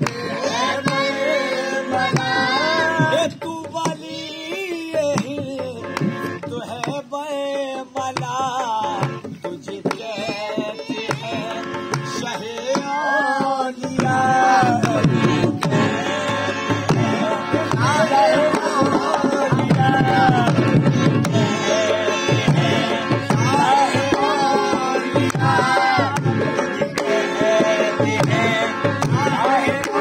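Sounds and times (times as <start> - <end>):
men singing devotional song: 0.0 - 30.0.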